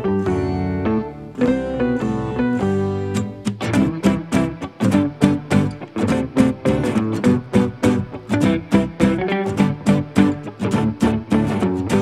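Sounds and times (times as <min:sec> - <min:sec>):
plucked guitar: 0:00.0 - 0:12.0.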